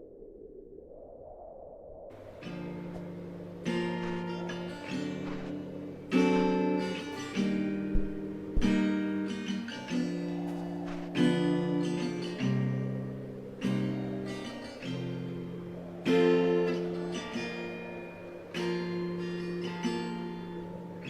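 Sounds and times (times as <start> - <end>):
acoustic guitar strumming chords: 2.2 - 21.0.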